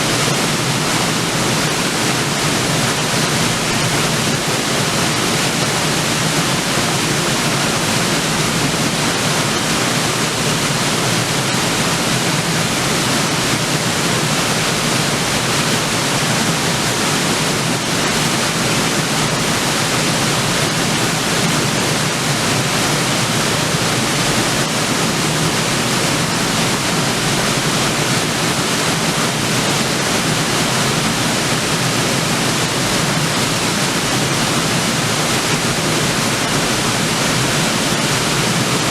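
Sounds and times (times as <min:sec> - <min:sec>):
waterfall rushing into pool: 0:00.0 - 0:38.9.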